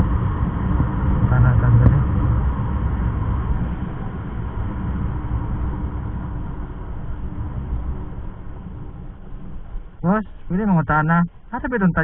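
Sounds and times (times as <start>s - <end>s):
motorcycle engine rumble: 0.0s - 12.0s
wind rushing over microphone: 0.0s - 12.0s.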